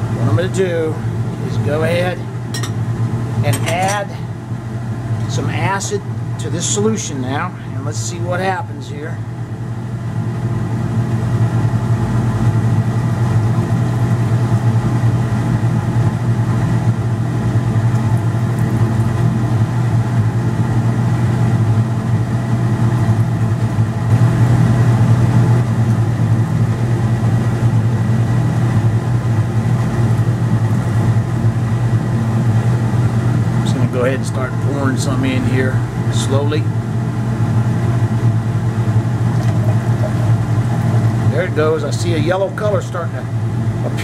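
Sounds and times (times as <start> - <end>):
exhaust fan humming: 0.0 - 44.0.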